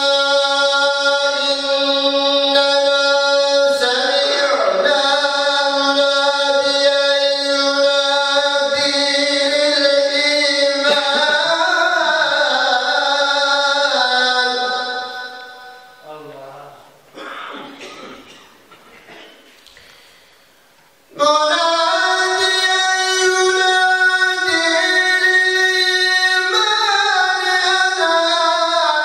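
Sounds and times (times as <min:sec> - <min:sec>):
man chanting into microphone: 0:00.0 - 0:17.0, 0:21.1 - 0:29.0.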